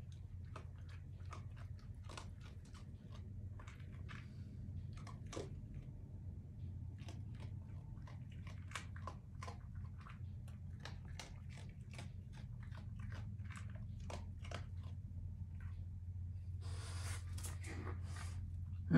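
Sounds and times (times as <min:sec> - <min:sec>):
low hum: 0:00.0 - 0:18.9
raccoon chewing and crunching food: 0:00.0 - 0:18.9.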